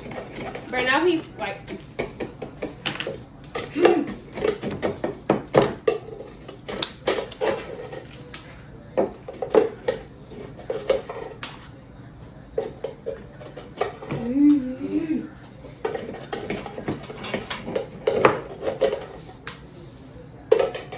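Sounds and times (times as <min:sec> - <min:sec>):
spoon scraping mixing bowl: 0:00.0 - 0:14.2, 0:15.2 - 0:20.9.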